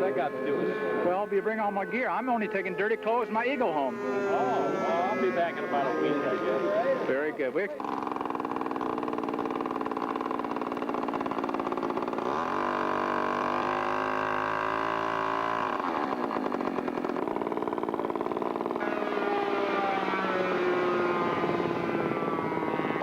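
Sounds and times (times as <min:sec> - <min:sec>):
model airplane engine buzzing: 0:00.0 - 0:23.0.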